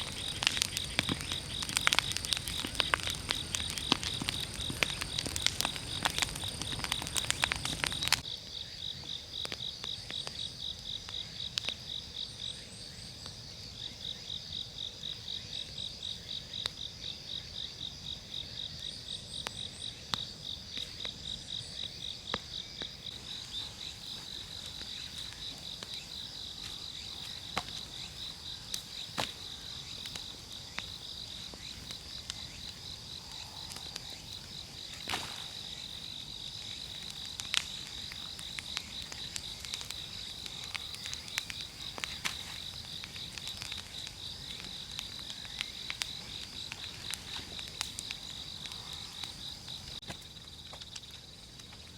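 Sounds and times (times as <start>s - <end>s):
campfire crackling and popping: 0.0s - 51.9s
insects chirping: 0.0s - 51.9s.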